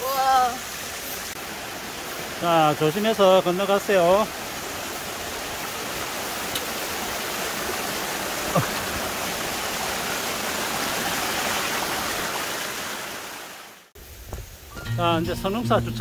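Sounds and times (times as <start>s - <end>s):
stream running over rocks: 0.0s - 14.8s.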